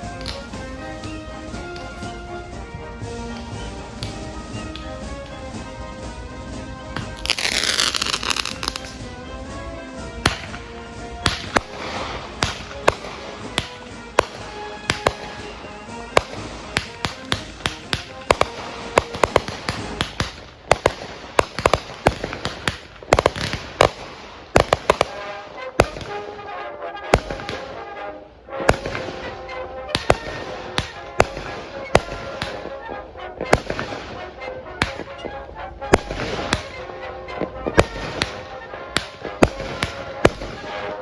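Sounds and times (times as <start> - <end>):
fireworks banging: 0.0 - 41.0.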